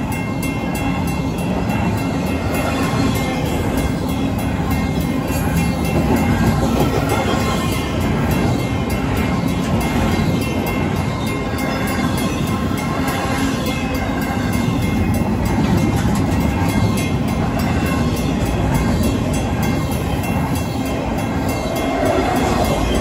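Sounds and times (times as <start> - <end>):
crossing bell ringing: 0.0 - 23.0
train wheels rumbling on rail: 0.0 - 23.0.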